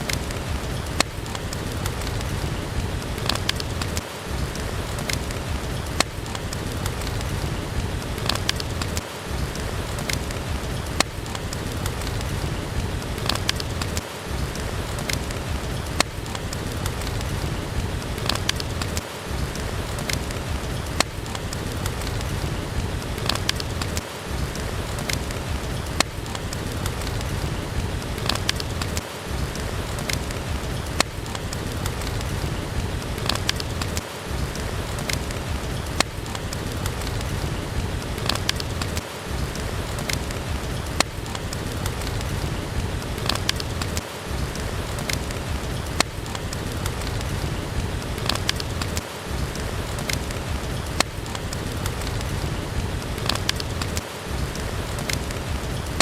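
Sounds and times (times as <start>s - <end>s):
steady rain: 0.0s - 56.0s
wood fire crackling and popping: 0.0s - 56.0s.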